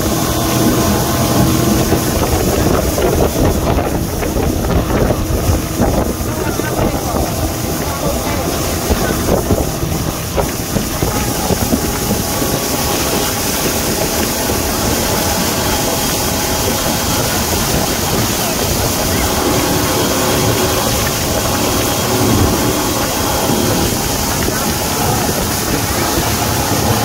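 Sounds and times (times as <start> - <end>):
motorboat engine running: 0.0 - 27.0
water churning in wake: 0.0 - 27.0.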